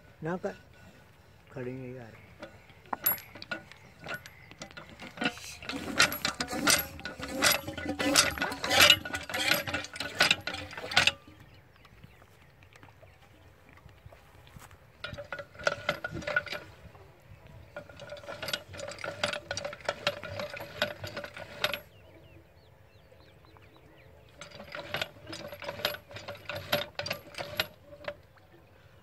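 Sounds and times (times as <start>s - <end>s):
hand pump squeaking and clanking: 0.0s - 12.0s, 14.6s - 22.0s, 24.3s - 29.0s.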